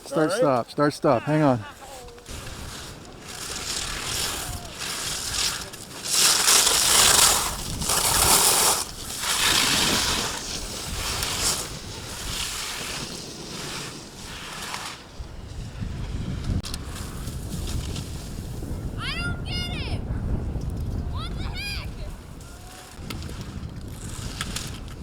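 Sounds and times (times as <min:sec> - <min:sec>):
ski edges scraping on hard snow: 0:00.0 - 0:19.0, 0:20.6 - 0:25.0.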